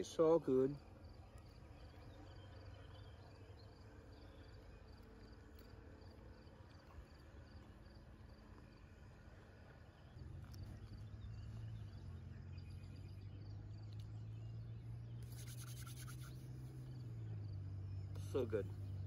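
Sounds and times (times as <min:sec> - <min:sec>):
faint insect chirping: 0:00.0 - 0:19.0.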